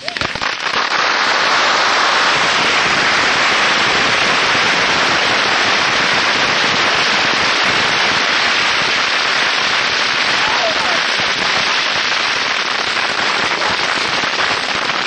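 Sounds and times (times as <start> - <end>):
bottle rockets crackling hiss: 0.0 - 15.0.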